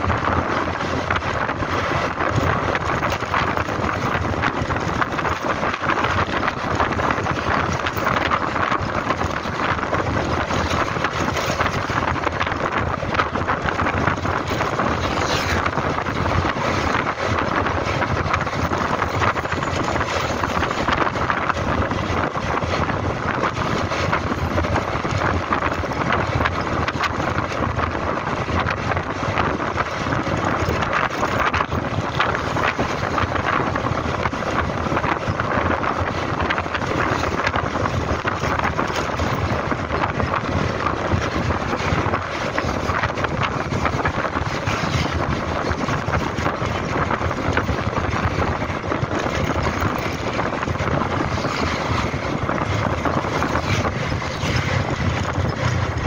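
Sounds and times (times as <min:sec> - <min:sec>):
road noise: 0:00.0 - 0:56.0
scooter engine running: 0:00.0 - 0:56.0
wind rushing over microphone: 0:00.0 - 0:56.0.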